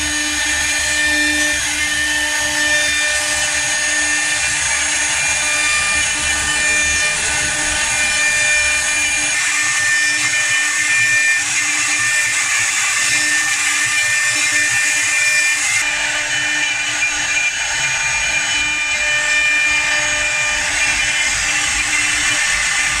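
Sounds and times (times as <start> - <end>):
bit cutting wood: 0.0 - 23.0
router spindle whining: 0.0 - 23.0.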